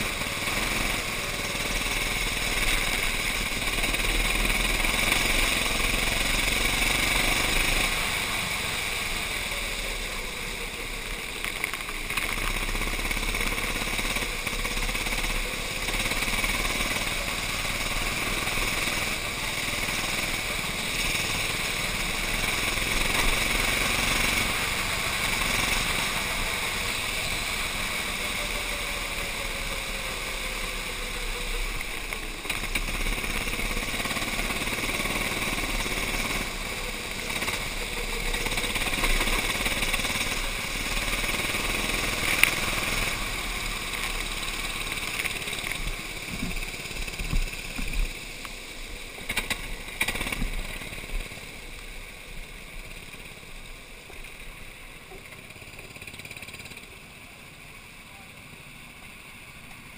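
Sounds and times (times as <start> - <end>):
kart engine running hard: 0.0 - 59.9
wind and spray noise: 0.0 - 59.9.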